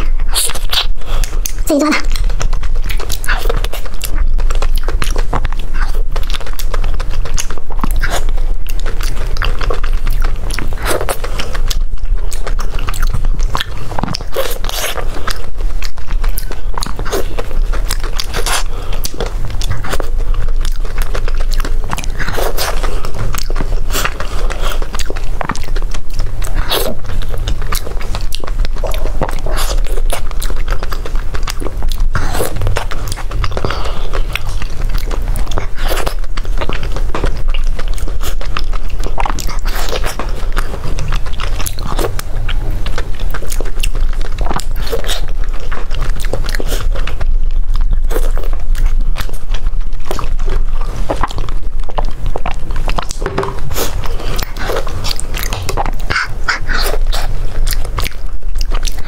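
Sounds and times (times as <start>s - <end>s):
mouth clicks and smacks: 0.0s - 59.0s
steady low hum: 0.0s - 59.0s
wet sticky chewing: 0.0s - 59.0s.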